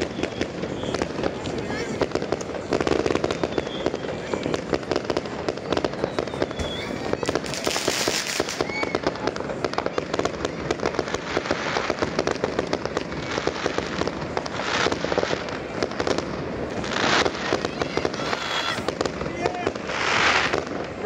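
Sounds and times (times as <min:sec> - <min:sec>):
fireworks bangs and crackling: 0:00.0 - 0:21.0
fireworks hissing bursts: 0:00.0 - 0:21.0.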